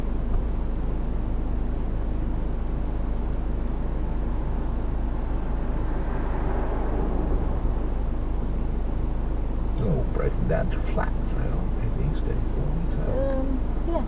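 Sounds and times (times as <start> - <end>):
diesel car engine running: 0.0 - 14.0
road noise: 0.0 - 14.0.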